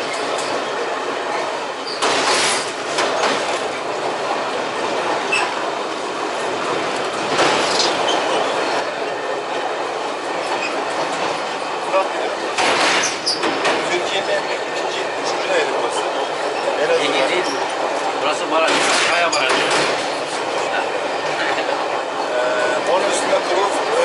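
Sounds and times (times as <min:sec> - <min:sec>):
train wheels on rails: 0:00.0 - 0:24.0
wind: 0:00.0 - 0:24.0.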